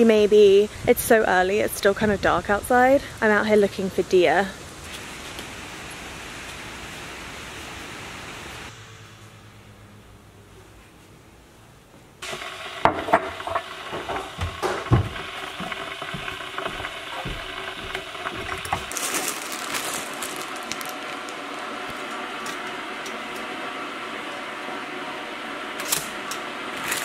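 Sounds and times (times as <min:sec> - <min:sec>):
steady hiss: 0:00.0 - 0:11.1, 0:12.1 - 0:27.0.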